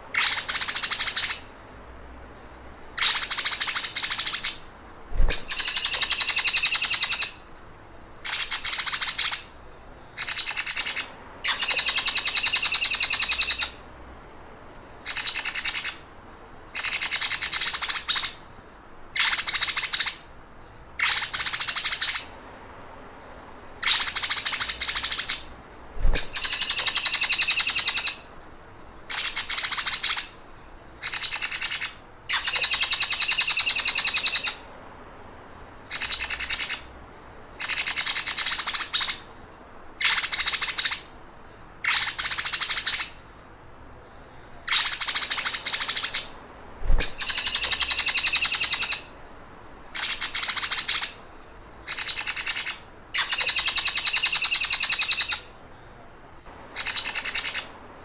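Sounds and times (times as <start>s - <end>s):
songbird buzzing trills: 0.0s - 14.0s, 23.2s - 34.7s, 35.4s - 58.0s.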